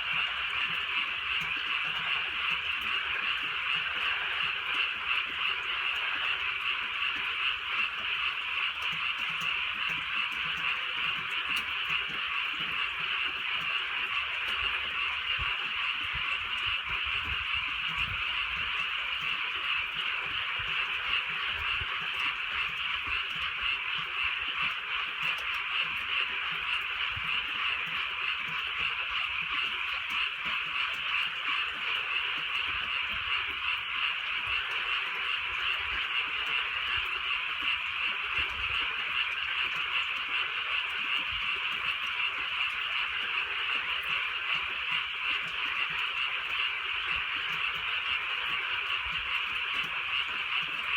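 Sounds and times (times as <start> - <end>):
chorus of frogs calling: 0.0 - 50.9.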